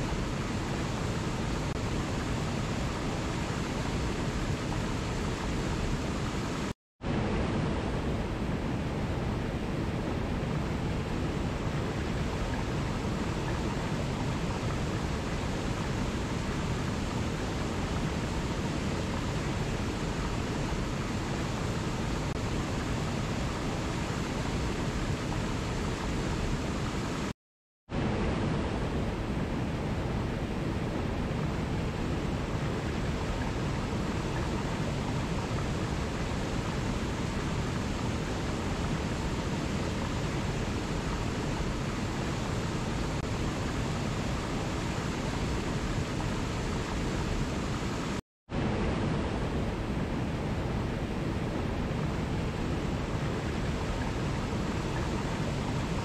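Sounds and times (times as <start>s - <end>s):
water rushing in stream: 0.0s - 27.3s, 27.9s - 56.0s.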